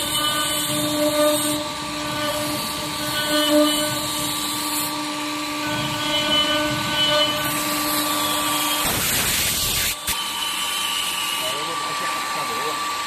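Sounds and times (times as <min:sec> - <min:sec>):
engraving machine humming: 0:00.0 - 0:13.0.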